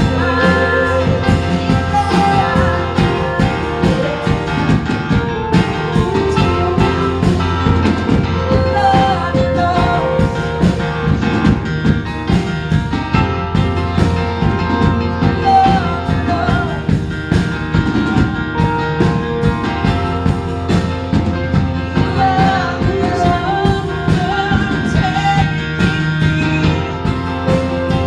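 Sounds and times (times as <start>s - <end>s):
person singing: 0.0s - 11.7s, 14.0s - 28.0s
worship band playing: 0.0s - 28.0s.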